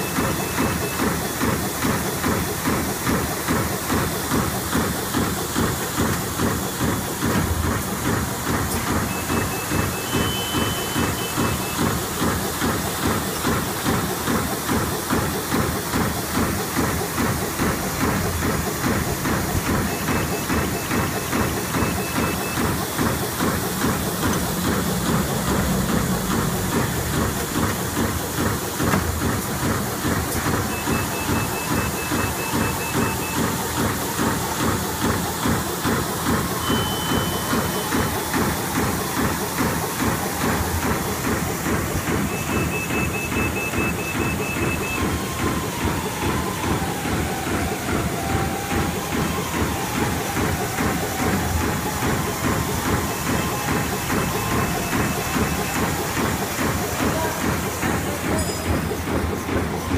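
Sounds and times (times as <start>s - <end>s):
machine strokes in fast rhythm: 0.0s - 59.9s
steady mechanical noise: 0.0s - 59.9s.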